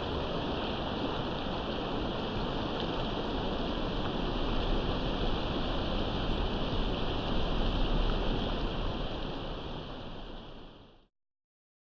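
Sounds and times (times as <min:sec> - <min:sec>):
fireplace crackling and hissing: 0:00.0 - 0:11.1.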